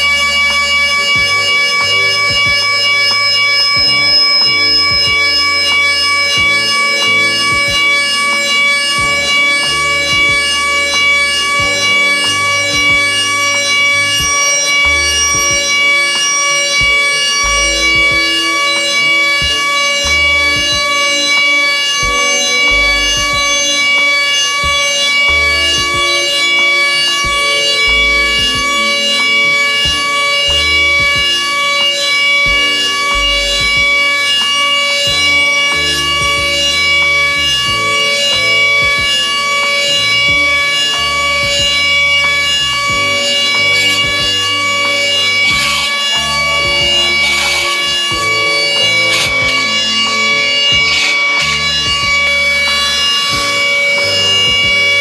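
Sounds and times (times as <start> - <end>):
electronic background music: 0.0 - 55.0
end mill cutting metal: 0.0 - 55.0
milling spindle whining: 0.0 - 55.0.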